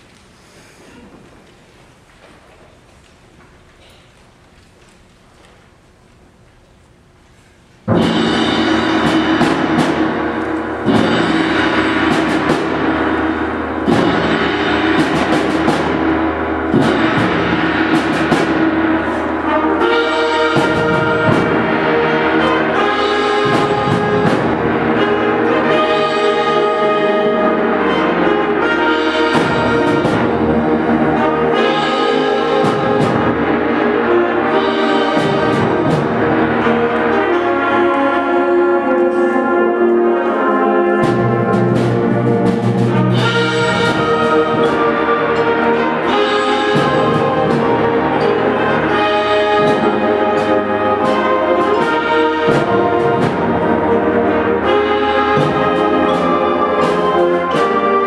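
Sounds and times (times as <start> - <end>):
timpani strikes: 7.8 - 58.0
concert band playing: 7.9 - 58.0.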